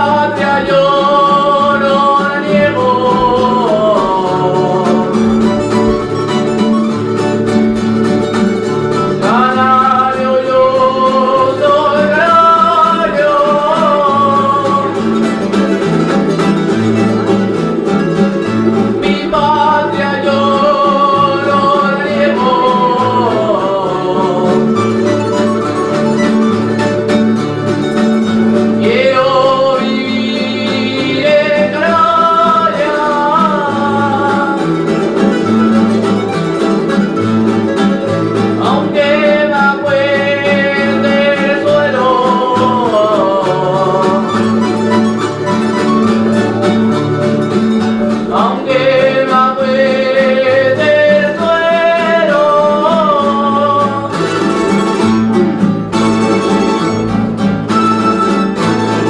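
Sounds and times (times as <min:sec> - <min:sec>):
person singing: 0:00.0 - 0:27.0, 0:27.9 - 0:46.9, 0:47.9 - 0:55.3
plucked string instruments: 0:00.0 - 0:59.0
strummed guitars: 0:00.0 - 0:59.0.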